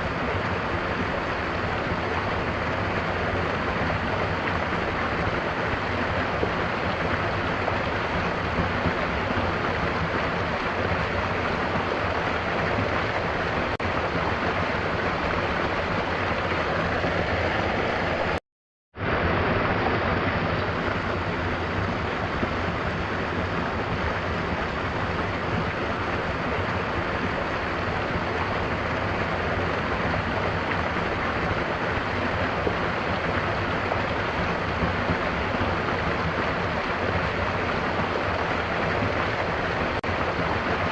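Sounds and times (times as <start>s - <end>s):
waterfall roaring: 0.0s - 18.4s, 19.0s - 40.9s.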